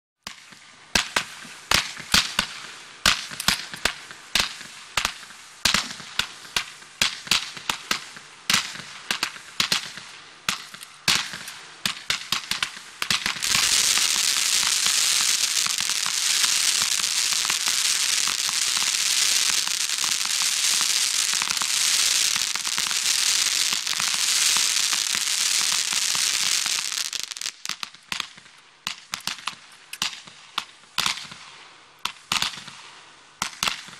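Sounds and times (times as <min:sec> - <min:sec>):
fireworks shots: 0:00.3 - 0:30.4
loud firework crackling: 0:01.2 - 0:30.4.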